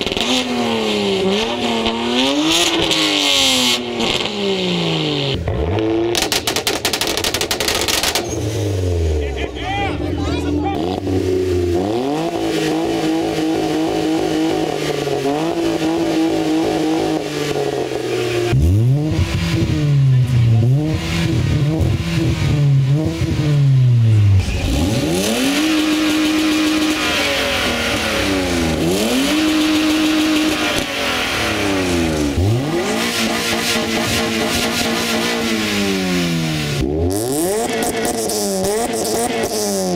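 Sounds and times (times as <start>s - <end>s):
car engine held at high revs: 0.0s - 39.9s
car engine quick blips: 0.0s - 39.9s.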